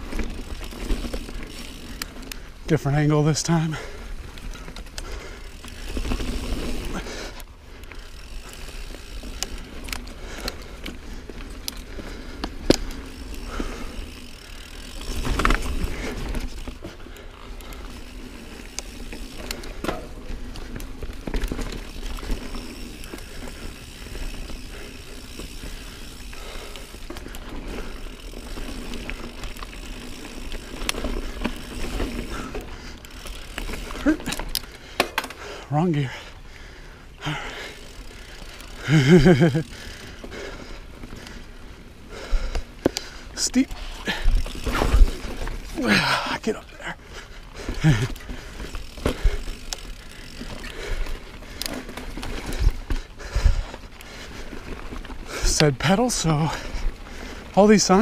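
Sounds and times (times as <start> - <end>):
bike knocking and rattling: 0.0 - 58.0
bike tyre noise on dirt trail: 0.0 - 58.0.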